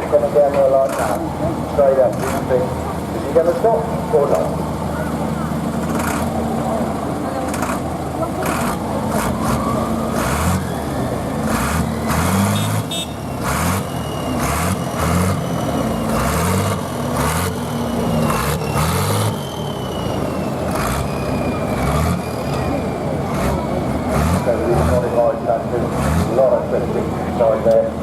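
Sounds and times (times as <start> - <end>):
tractor diesel engine revving: 0.0 - 28.0.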